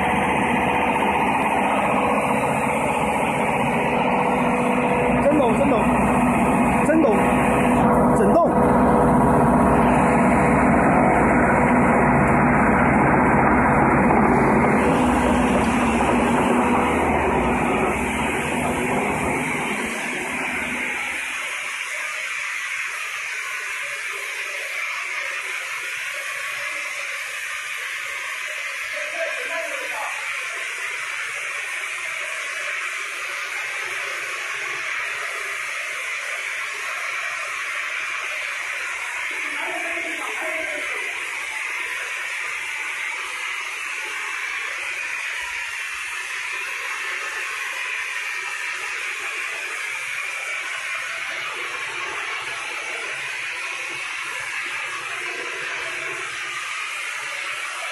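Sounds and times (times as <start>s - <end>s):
mortar spray gun hissing: 0.0s - 57.9s.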